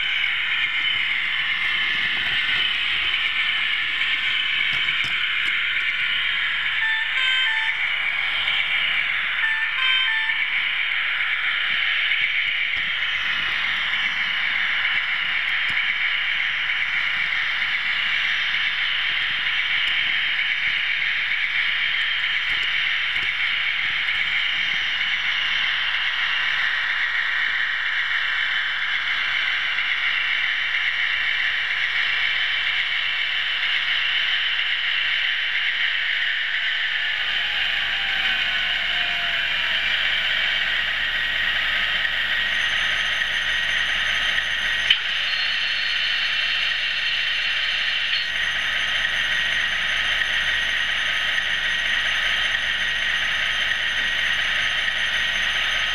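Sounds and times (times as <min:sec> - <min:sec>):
model train running on track: 0:00.0 - 0:55.9.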